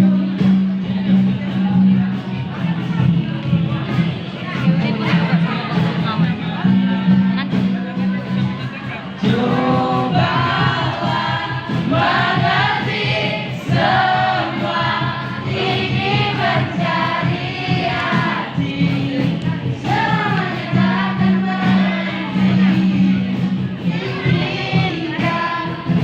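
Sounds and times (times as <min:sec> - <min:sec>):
musical accompaniment: 0:00.0 - 0:26.0
voices singing together: 0:00.0 - 0:26.0.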